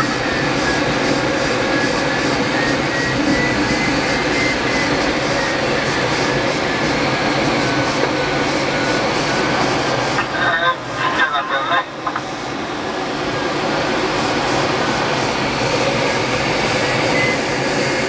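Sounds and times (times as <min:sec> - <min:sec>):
air rushing around glider canopy: 0:00.0 - 0:18.0.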